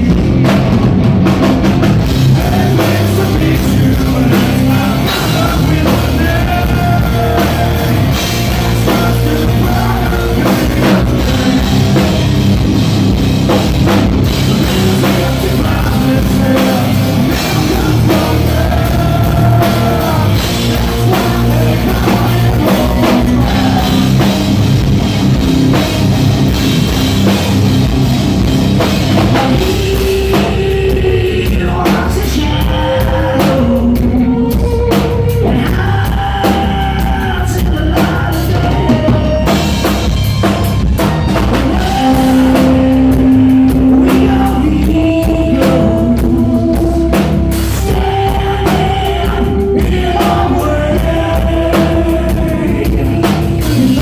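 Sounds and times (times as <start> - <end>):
man singing: 0.0 - 0.8, 2.0 - 12.7, 13.4 - 25.0, 28.9 - 40.1, 41.4 - 54.0
bass guitar: 0.0 - 54.0
drum kit: 0.0 - 54.0
electric guitar: 0.0 - 54.0.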